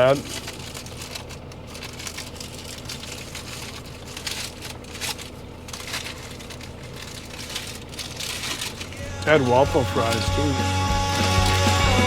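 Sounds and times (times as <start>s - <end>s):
sandwich wrapper crinkling: 0.0s - 12.0s
steady low hum: 0.0s - 12.0s.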